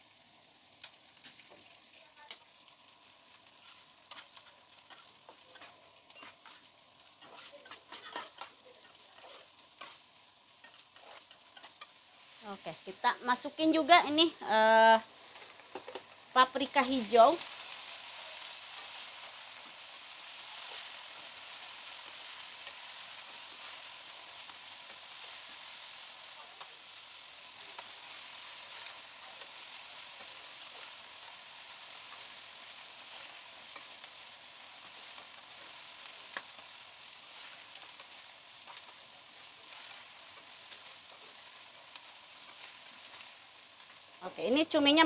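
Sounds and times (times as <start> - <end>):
vegetables sizzling in oil: 0.0 - 45.0.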